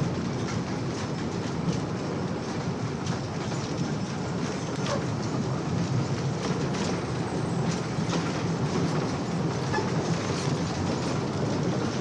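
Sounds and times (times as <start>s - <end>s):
roller coaster wheels rumbling: 0.0s - 12.0s.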